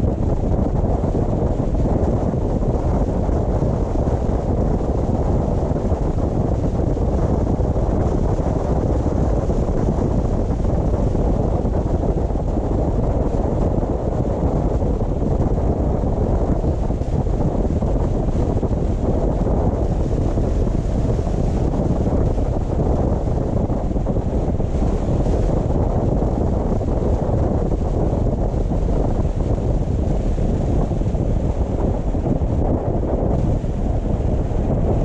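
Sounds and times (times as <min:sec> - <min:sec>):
car tyre and wind rumble: 0:00.0 - 0:35.0.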